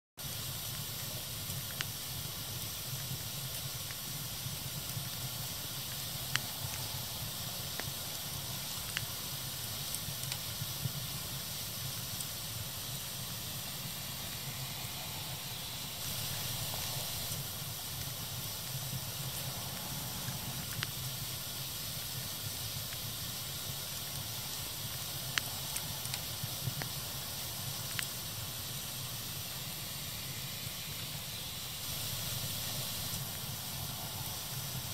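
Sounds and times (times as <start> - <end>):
fire crackles and pops: 0.2 - 34.9
wood fire hissing: 0.2 - 34.9.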